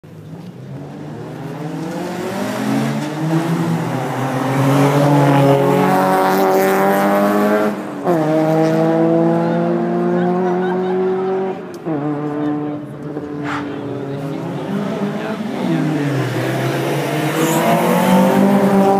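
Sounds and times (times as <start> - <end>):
car engine accelerating: 0.2 - 18.9.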